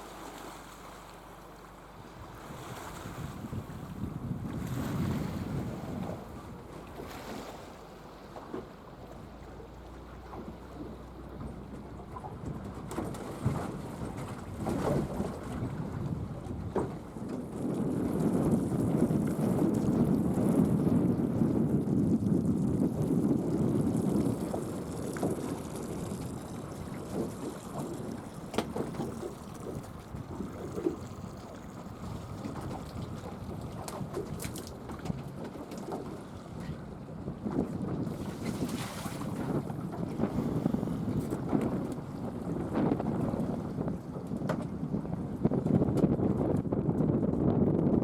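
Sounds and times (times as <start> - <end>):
wind rumbling on microphone: 2.0 - 48.0.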